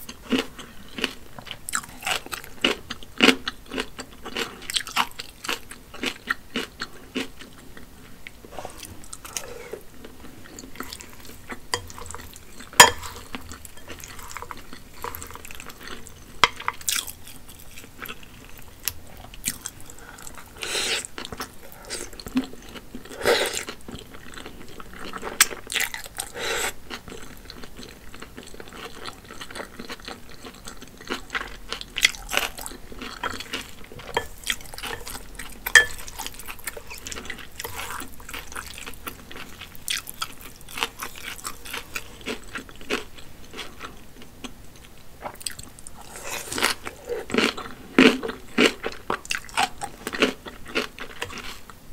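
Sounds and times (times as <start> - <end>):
close chewing of noodles: 0.0 - 51.8.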